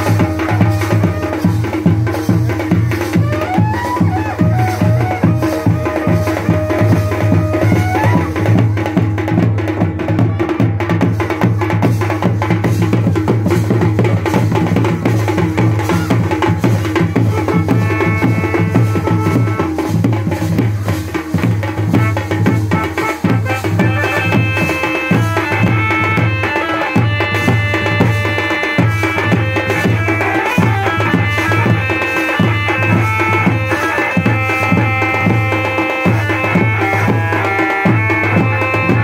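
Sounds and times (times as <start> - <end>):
dhol drum beaten with stick: 0.0 - 39.0
melody over drumming: 0.0 - 39.0.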